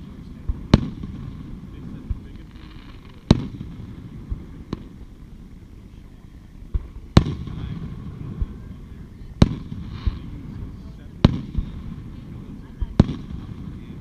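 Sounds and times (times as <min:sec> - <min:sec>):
faint fireworks thumps: 0:00.0 - 0:14.0
fireworks bangs: 0:00.0 - 0:14.0
low rolling rumble: 0:00.0 - 0:14.0.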